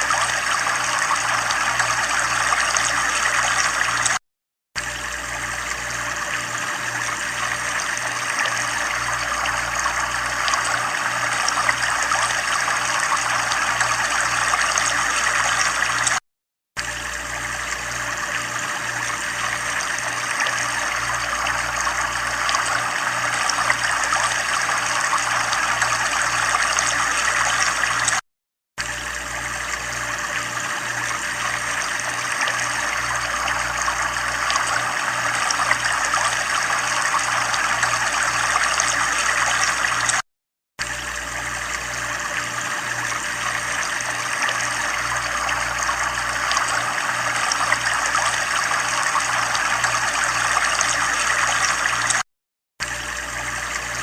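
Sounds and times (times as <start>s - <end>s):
water trickling: 0.0s - 4.2s, 4.8s - 16.2s, 16.8s - 28.2s, 28.8s - 40.2s, 40.8s - 52.2s.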